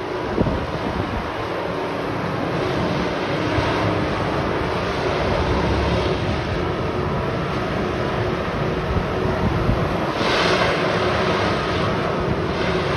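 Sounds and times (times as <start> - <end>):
faint hum of distant machine: 0.0 - 12.9
wind on microphone: 0.0 - 12.9.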